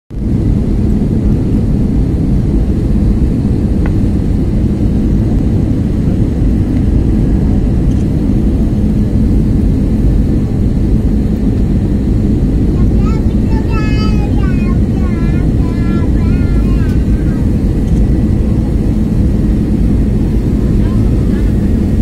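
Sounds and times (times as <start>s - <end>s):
jet airliner cabin drone: 0.1s - 22.0s.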